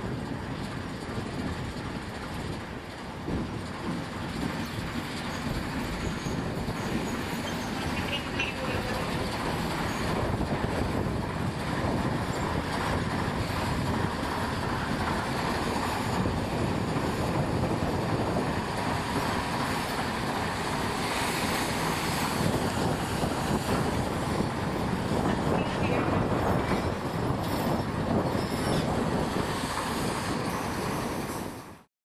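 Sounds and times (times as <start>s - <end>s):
diesel locomotive engine: 0.0s - 31.9s
train wheels on rails: 0.0s - 31.9s.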